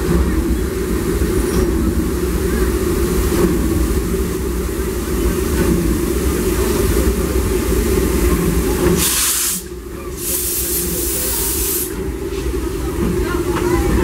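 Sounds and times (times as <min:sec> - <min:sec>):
steam locomotive venting steam: 0:00.0 - 0:14.0.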